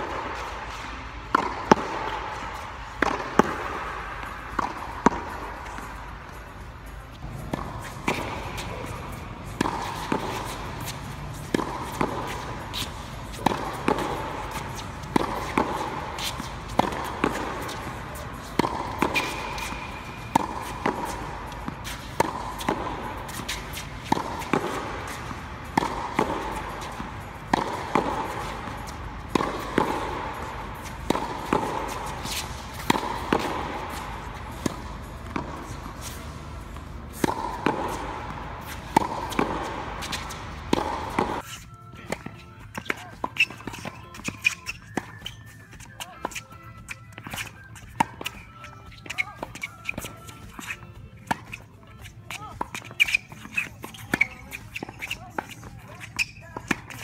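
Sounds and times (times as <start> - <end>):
tennis ball bouncing on hard court: 0.0 - 57.0
tennis racket striking ball: 0.0 - 57.0.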